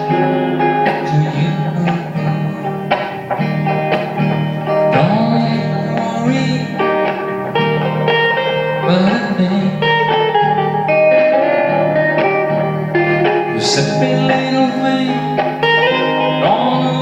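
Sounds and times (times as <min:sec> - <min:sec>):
person singing: 0:00.0 - 0:12.0, 0:13.0 - 0:17.0
acoustic guitar: 0:00.0 - 0:17.0.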